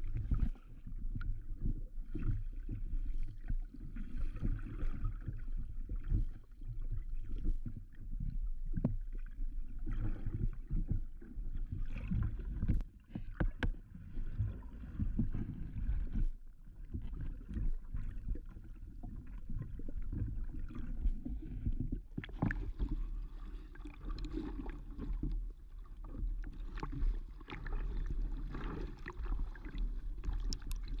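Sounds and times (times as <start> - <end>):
water sloshing and gurgling: 0.0 - 31.0.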